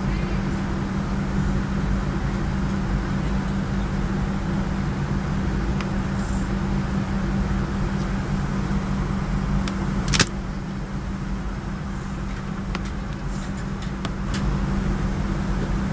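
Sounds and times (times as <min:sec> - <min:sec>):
airplane cabin hum: 0:00.0 - 0:15.9.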